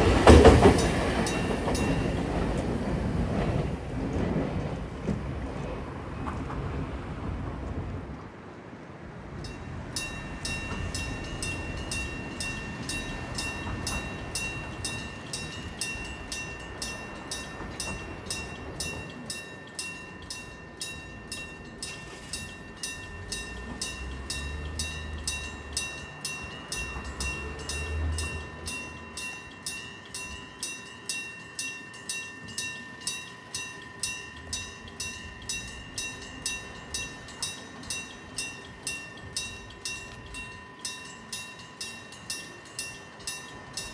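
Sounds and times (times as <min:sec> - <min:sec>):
railroad crossing bell clanging: 0:00.0 - 0:08.1, 0:09.2 - 0:43.9
train rumbling past: 0:00.0 - 0:43.9.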